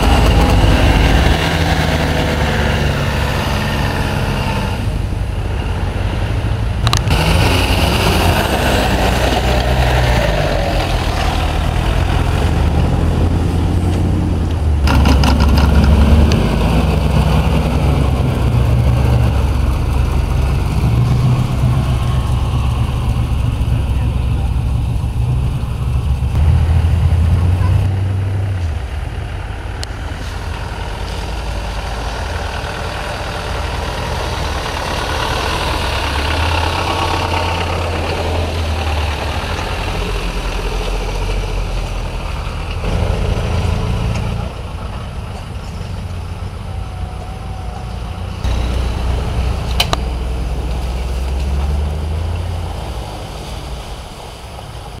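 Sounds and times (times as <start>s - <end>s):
off-road vehicle engines crawling: 0.0s - 55.0s.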